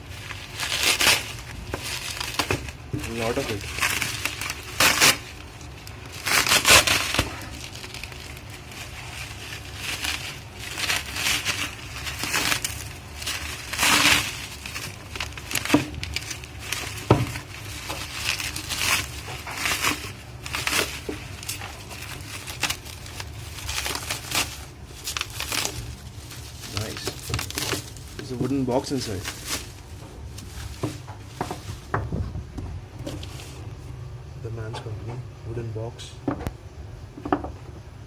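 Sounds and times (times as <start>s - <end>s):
bubble wrap crinkling: 0.0s - 34.0s.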